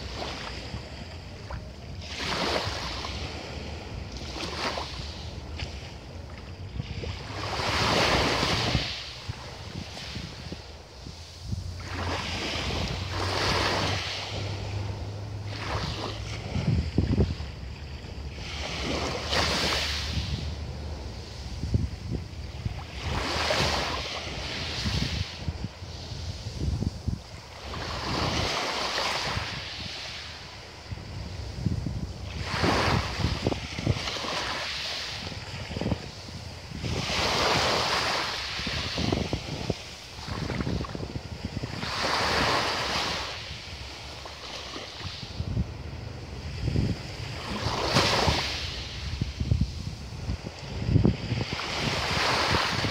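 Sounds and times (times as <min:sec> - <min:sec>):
waves washing on pebble beach: 0:00.0 - 0:52.9
wind buffeting microphone: 0:00.0 - 0:52.9.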